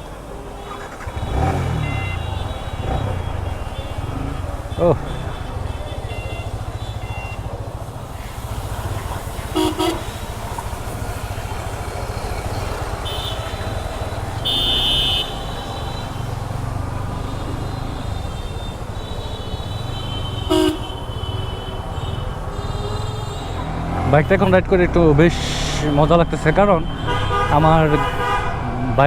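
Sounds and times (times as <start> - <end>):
vehicle horns honking: 0.0 - 7.8, 8.6 - 10.7, 13.0 - 29.0
motorcycle rumble: 0.0 - 29.0.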